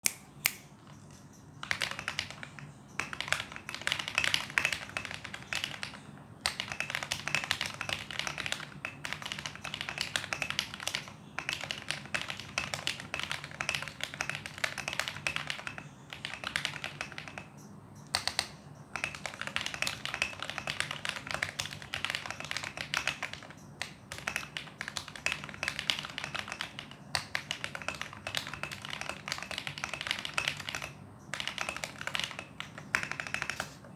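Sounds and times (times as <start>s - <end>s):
typing on mechanical keyboard: 0.9s - 33.9s.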